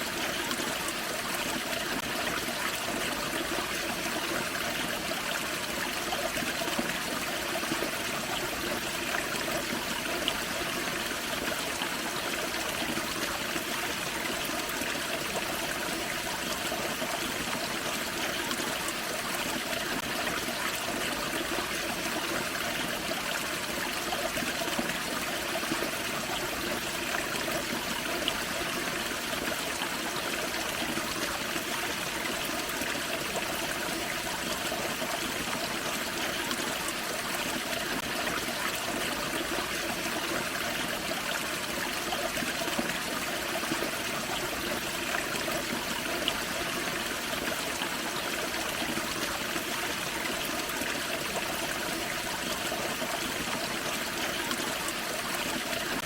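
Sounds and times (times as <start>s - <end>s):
creek running over waterfall: 0.0s - 56.0s.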